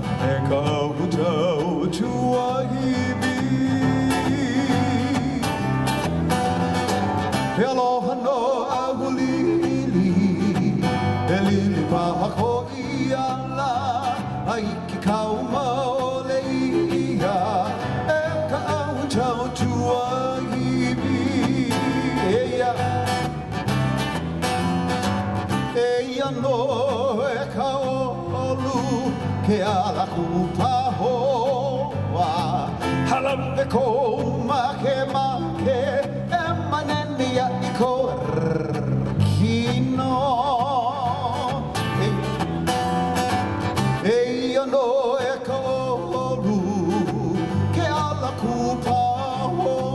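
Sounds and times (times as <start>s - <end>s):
strummed guitars: 0.0s - 49.9s.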